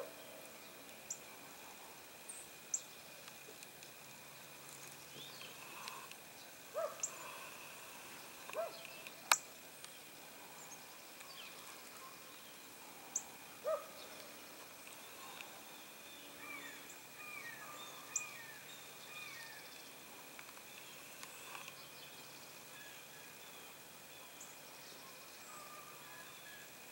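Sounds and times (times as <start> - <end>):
birds chirping: 0.0 - 26.4
faint high hum: 0.0 - 26.9.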